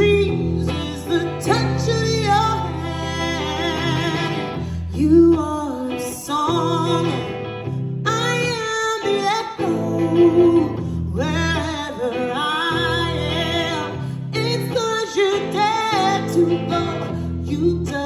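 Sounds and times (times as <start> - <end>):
electric guitar: 0.0 - 18.0
woman singing: 0.0 - 18.0.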